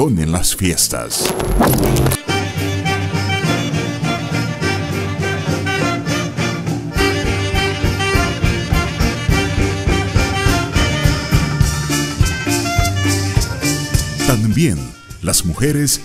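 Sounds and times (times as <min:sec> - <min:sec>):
cumbia music with wind instrument: 0:01.7 - 0:15.3.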